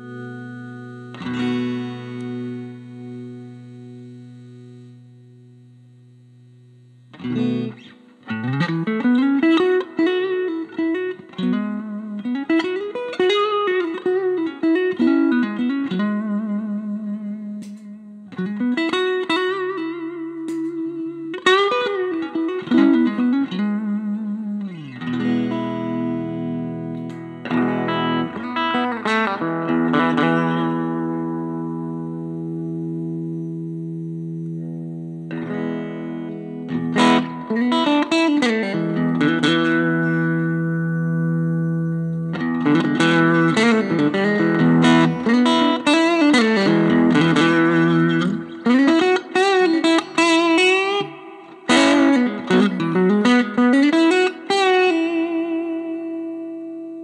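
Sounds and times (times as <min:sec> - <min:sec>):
electric guitar lead phrases: 0:00.0 - 0:57.0
strummed guitar chords ringing: 0:00.0 - 0:57.0.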